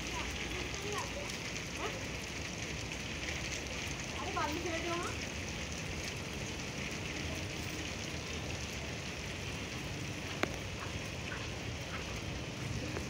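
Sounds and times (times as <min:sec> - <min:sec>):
rain on tiled roof: 0:00.0 - 0:13.0.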